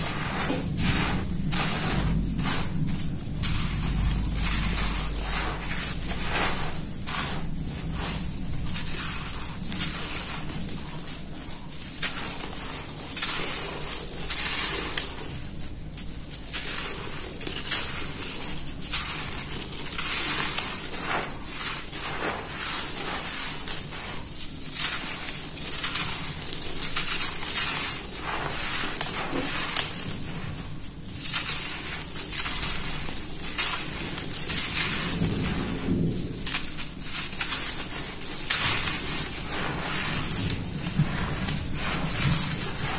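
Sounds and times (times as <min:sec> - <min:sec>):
hands crumbling dry dirt clods: 0:00.0 - 0:42.9.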